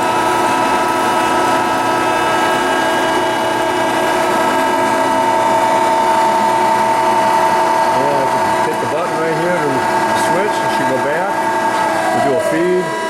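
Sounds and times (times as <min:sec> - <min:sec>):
band saw whining: 0:00.0 - 0:13.0.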